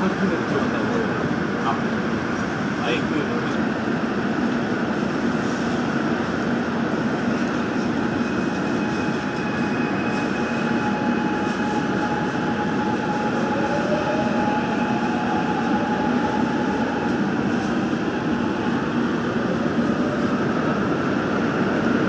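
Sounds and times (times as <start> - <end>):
subway car running noise: 0.0 - 22.0.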